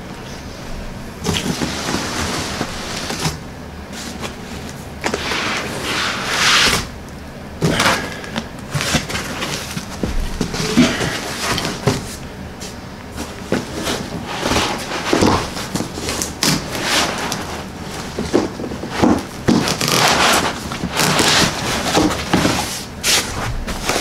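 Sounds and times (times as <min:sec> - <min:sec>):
foam and cardboard rustling: 0:01.2 - 0:06.9, 0:07.6 - 0:24.0.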